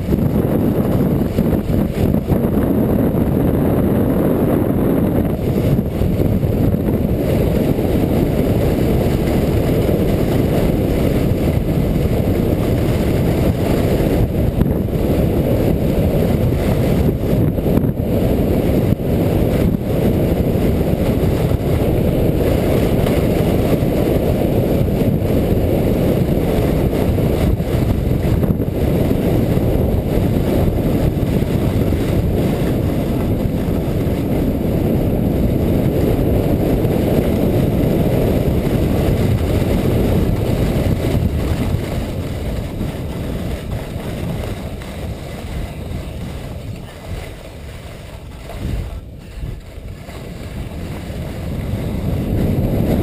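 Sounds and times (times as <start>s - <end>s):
sled runners rumbling on snow: 0.0s - 53.0s
wind buffeting microphone: 0.0s - 53.0s.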